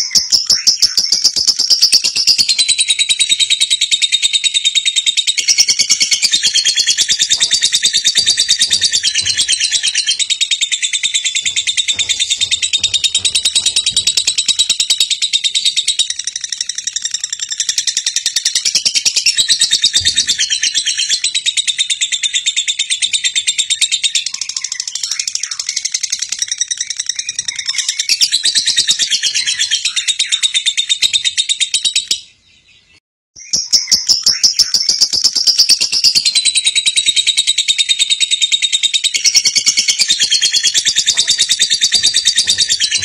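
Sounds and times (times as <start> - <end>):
bird chirping high-pitched: 0.0 - 43.0.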